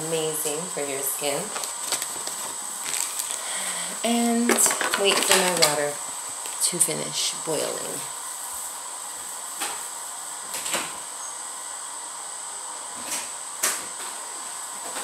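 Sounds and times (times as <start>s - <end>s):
water heating hiss: 0.0s - 15.0s.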